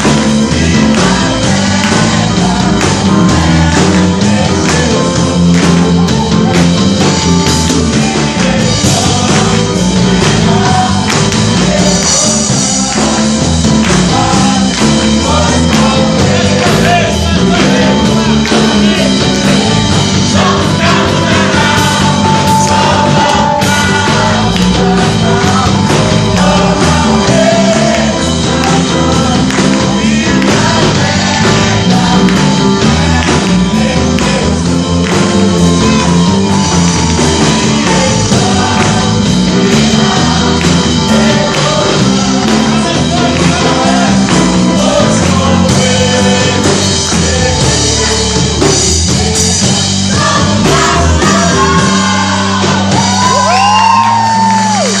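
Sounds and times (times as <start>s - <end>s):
band playing worship song: 0.0s - 55.0s
men singing together: 0.0s - 55.0s.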